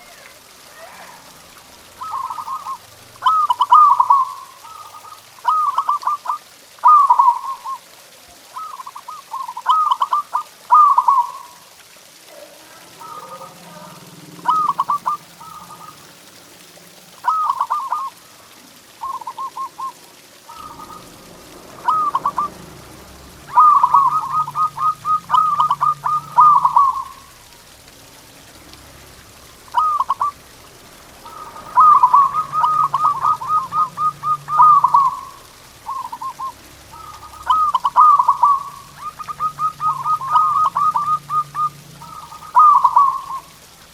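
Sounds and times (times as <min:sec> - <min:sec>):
dove cooing: 0:00.0 - 0:16.4, 0:17.2 - 0:27.9, 0:29.4 - 0:43.6.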